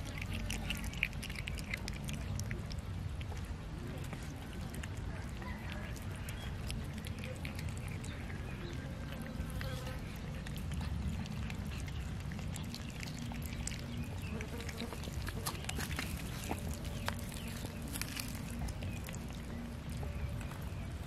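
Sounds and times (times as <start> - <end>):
cats chewing raw chicken: 0.0 - 21.0.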